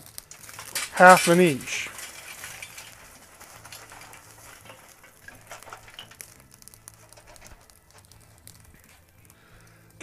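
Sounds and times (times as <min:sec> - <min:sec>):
burning charcoal crackling: 0:00.0 - 0:10.0.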